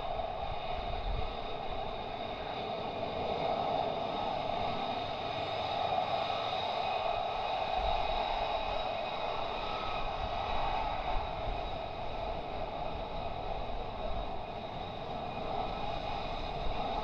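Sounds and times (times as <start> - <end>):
jet engine whining: 0.0 - 17.0.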